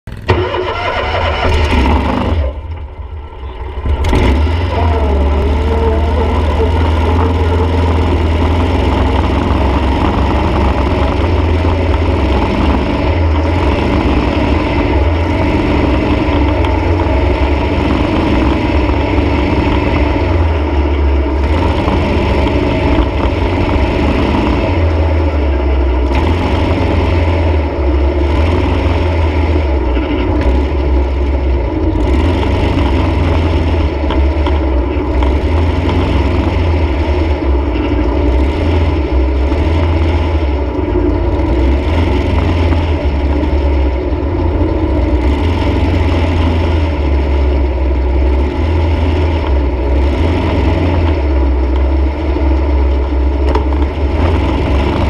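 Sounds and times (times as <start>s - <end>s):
dune buggy engine running hard: 0.0s - 55.0s.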